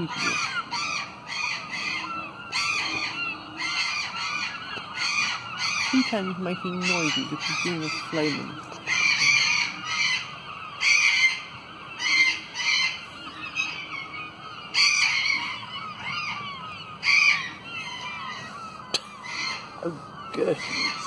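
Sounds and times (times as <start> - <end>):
faint chirping: 0.0 - 21.0.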